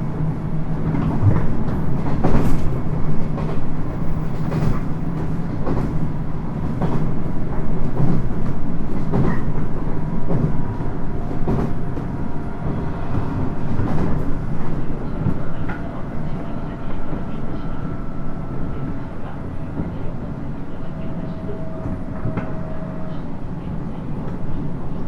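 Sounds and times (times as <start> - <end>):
train running gear rumble: 0.0 - 25.0.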